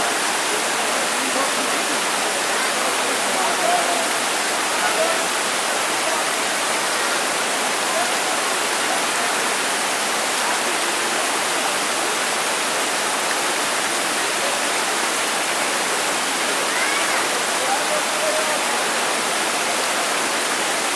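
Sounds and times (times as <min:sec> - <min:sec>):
river rushing over rocks: 0:00.0 - 0:20.9.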